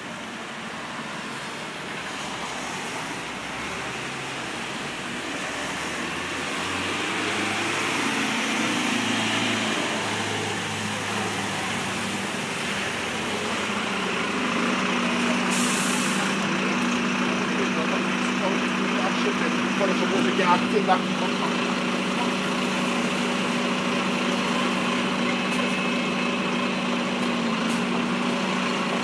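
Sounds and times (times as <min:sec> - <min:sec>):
tyres hissing on wet road: 0:00.0 - 0:29.0.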